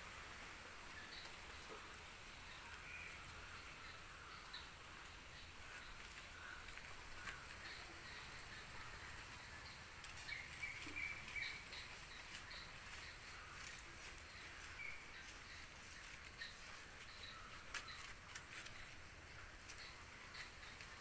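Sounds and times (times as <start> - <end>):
soft bird chirps: 1.0 - 19.0.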